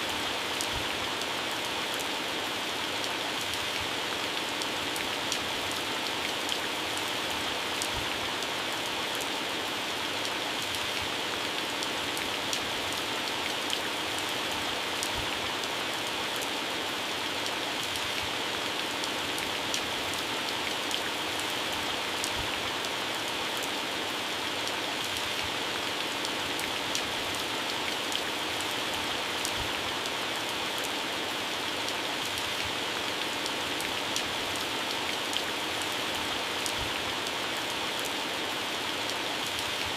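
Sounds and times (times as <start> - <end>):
heavy rain on plants: 0.0 - 39.9.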